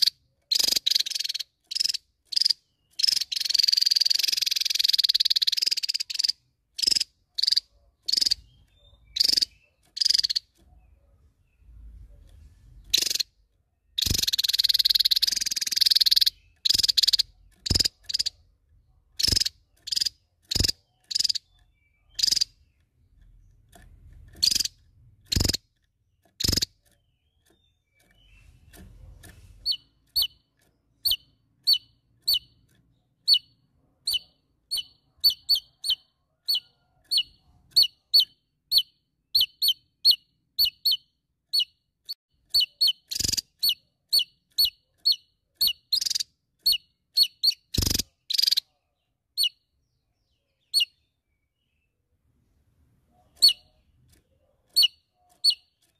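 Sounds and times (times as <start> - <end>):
bird song and call notes: 0.0 - 55.9.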